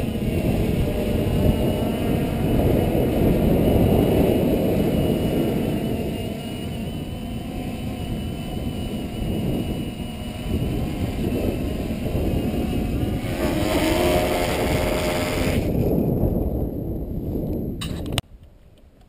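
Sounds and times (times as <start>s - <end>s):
drone motors whining: 0.0s - 17.0s
wind rumble on microphone: 0.0s - 19.0s.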